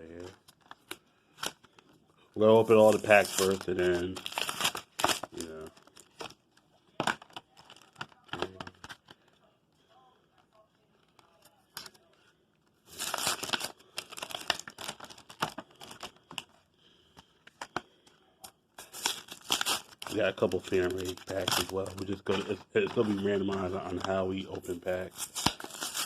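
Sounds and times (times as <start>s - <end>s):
foil wrappers crinkling: 0.0s - 18.0s, 18.8s - 26.0s.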